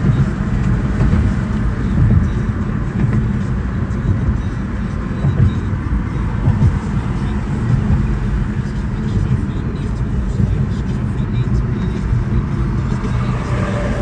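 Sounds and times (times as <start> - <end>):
car road noise rumble: 0.0 - 14.0.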